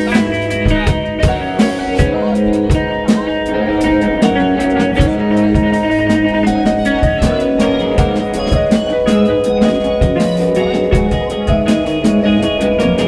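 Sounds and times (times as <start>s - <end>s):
drum kit beat: 0.0s - 13.0s
sustained keyboard chords: 0.0s - 13.0s.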